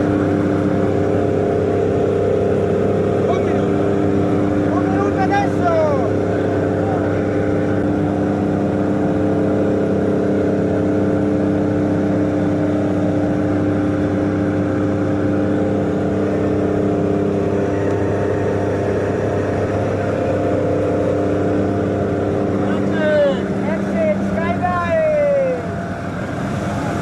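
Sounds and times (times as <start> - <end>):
propeller engine droning: 0.0 - 27.0.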